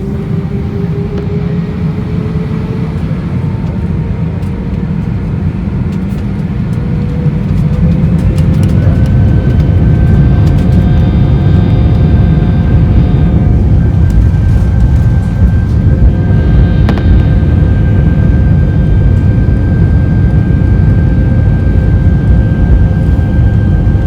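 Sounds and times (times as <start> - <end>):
jet engines spooling up: 0.0 - 24.0.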